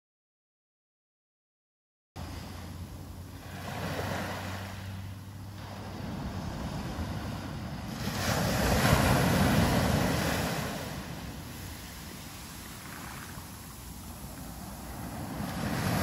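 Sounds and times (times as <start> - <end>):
waves washing up sandy beach: 2.2 - 16.0
wind rumble on microphone: 2.2 - 16.0.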